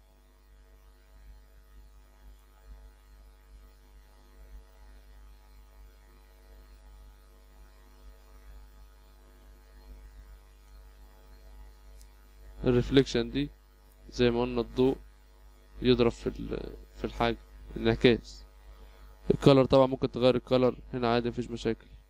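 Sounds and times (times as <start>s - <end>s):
faint mains hum: 0.0s - 22.0s
low background hiss: 0.0s - 22.0s.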